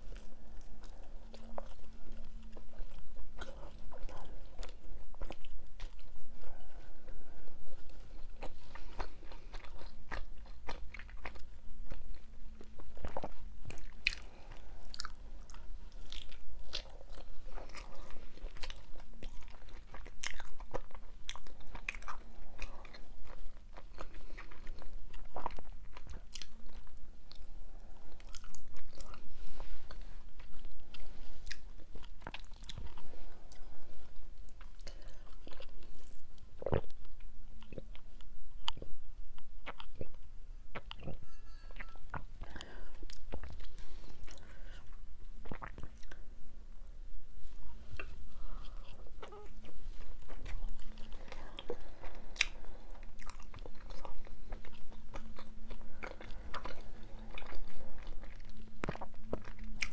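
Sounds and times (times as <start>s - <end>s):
crunchy food chewing: 0.0s - 41.2s, 41.8s - 46.2s, 48.0s - 59.9s.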